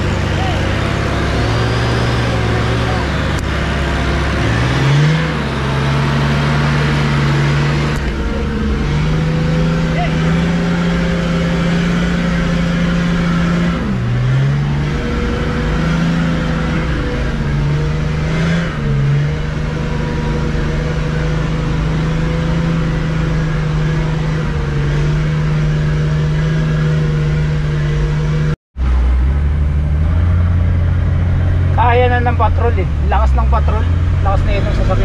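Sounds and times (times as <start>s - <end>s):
car engine running under load: 0.0s - 35.0s.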